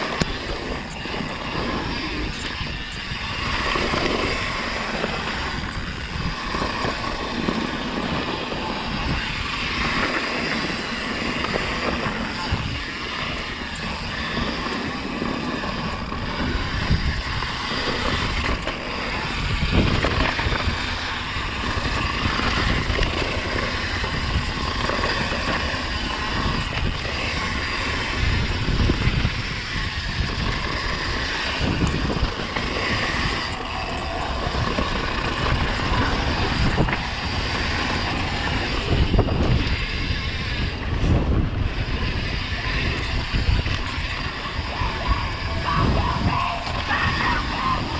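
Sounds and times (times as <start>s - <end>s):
bike tyre rumble: 0.0s - 47.9s
wind buffeting microphone: 0.0s - 47.9s.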